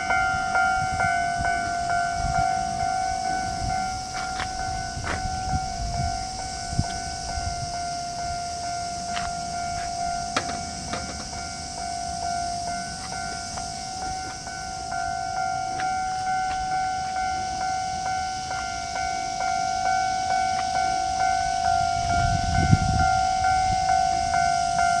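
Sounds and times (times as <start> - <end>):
level crossing bell ringing: 0.0 - 25.0.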